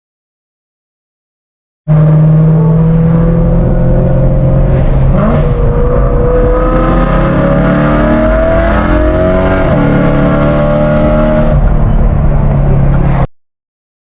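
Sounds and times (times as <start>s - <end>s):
car engine accelerating hard: 1.9s - 13.2s.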